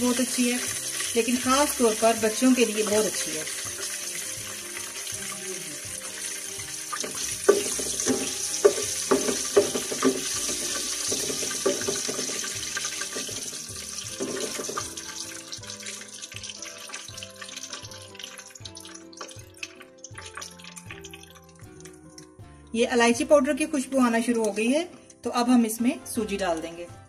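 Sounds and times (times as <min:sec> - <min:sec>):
oil sizzling in a pot: 0:00.0 - 0:22.5.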